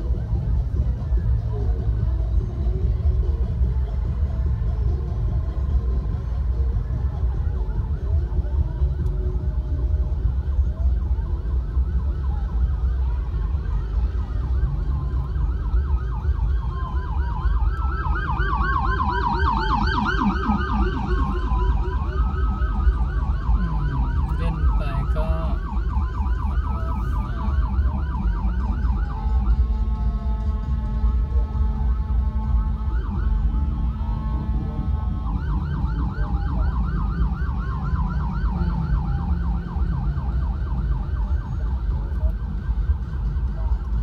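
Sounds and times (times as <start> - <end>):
emergency siren wailing: 0.0 - 44.0
idling traffic rumble: 0.0 - 44.0.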